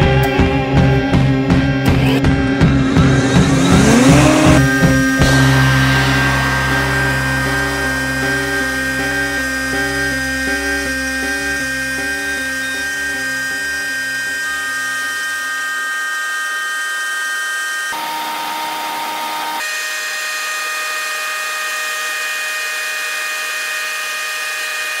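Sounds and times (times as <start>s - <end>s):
wood shaper whining: 0.0s - 25.0s.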